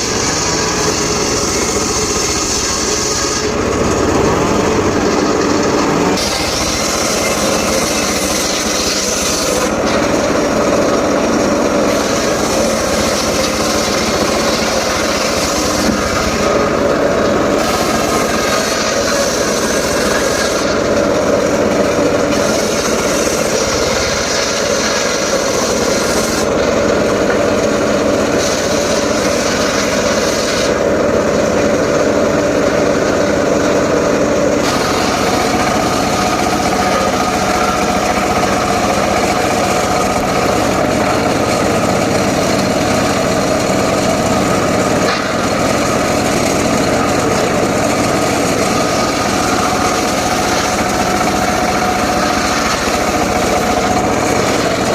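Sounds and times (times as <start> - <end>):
saw cutting wood: 0.0 - 54.9
saw engine hum: 0.0 - 54.9.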